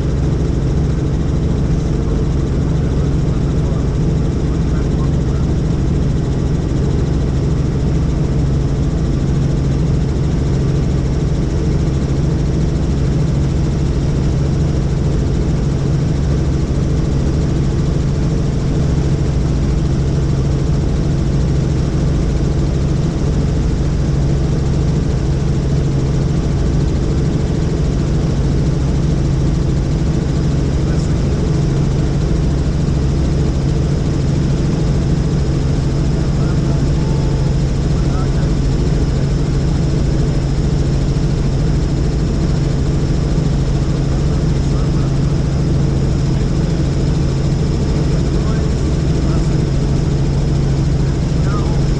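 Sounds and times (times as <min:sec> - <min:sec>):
helicopter rotor and turbine drone: 0:00.0 - 0:51.9.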